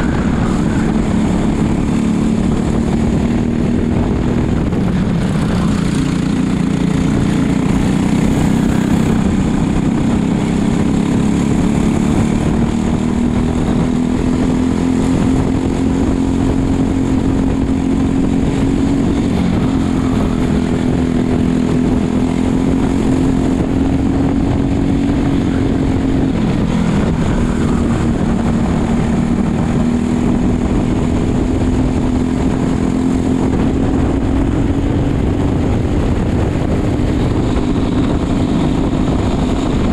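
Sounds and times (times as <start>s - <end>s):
kart engine droning: 0.0s - 39.9s
rush of wind noise: 0.0s - 39.9s.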